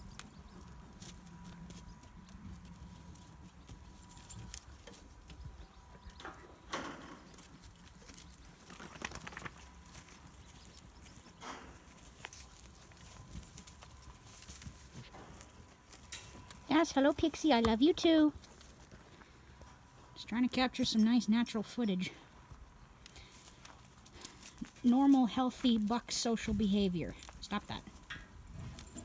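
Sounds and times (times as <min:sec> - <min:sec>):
goat hooves on dirt: 0:00.0 - 0:29.0.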